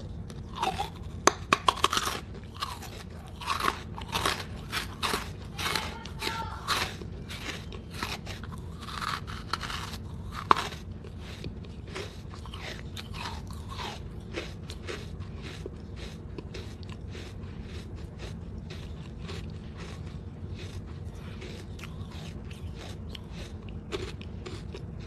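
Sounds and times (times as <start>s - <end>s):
brick being chewed: 0.0s - 25.0s.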